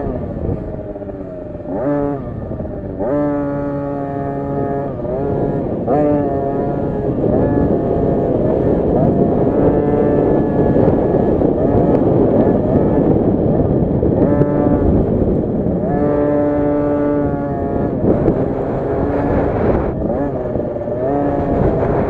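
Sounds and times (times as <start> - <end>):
two-stroke engine revving: 0.0 - 22.0
wind buffeting microphone: 0.0 - 22.0.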